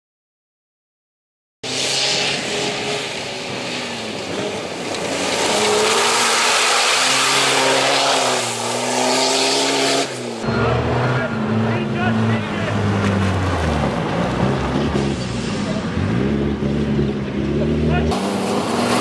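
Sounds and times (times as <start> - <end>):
race vehicle engine revving: 1.6 - 19.0.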